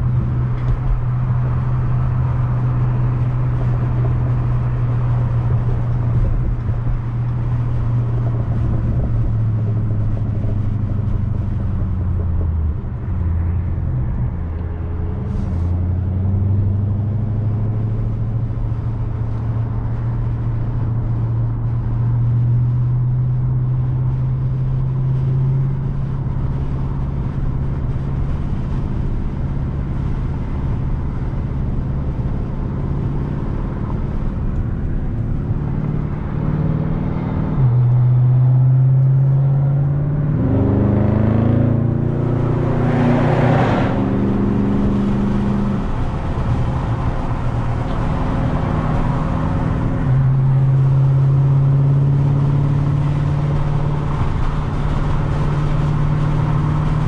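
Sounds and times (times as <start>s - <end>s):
deep car exhaust drone: 0.0s - 57.0s.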